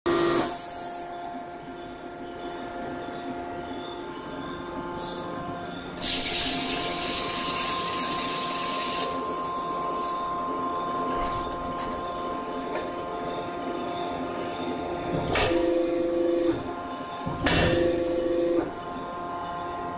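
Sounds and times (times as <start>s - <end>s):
machine hum: 0.1s - 19.9s.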